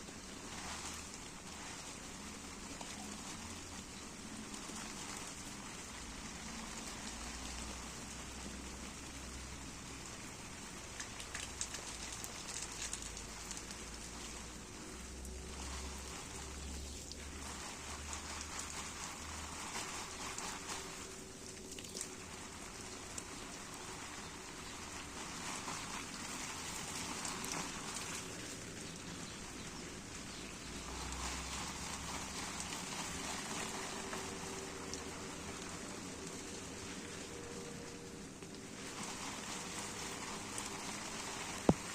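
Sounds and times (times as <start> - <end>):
steady rain pattering: 0.0 - 41.9.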